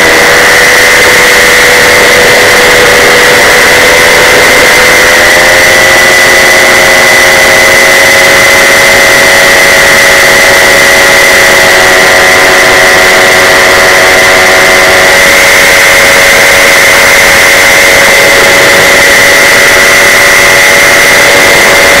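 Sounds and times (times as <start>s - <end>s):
paramotor engine and propeller: 0.0s - 22.0s.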